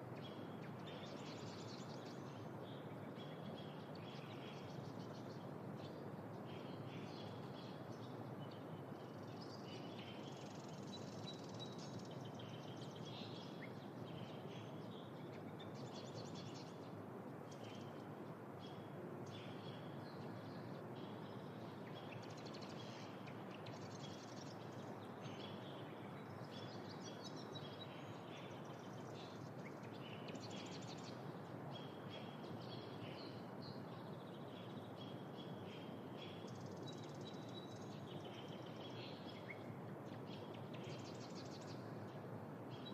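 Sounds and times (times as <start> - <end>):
bird calls and trills: 0.0 - 42.9
low background noise: 0.0 - 42.9.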